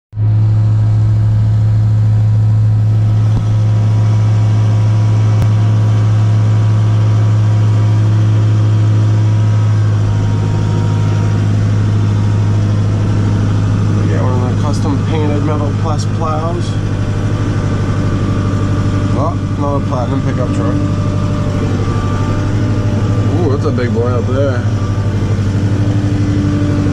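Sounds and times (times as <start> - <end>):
diesel engine droning: 0.1 - 26.9.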